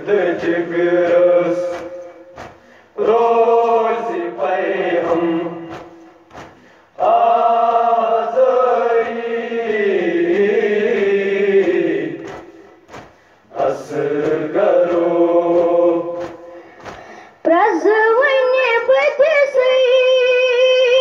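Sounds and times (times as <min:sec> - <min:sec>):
choir-like chanted lament: 0:00.0 - 0:17.5.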